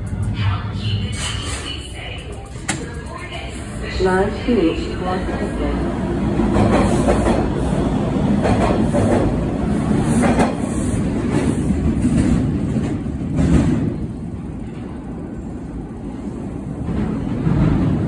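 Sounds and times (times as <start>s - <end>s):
subway train pulling out: 0.0s - 18.0s.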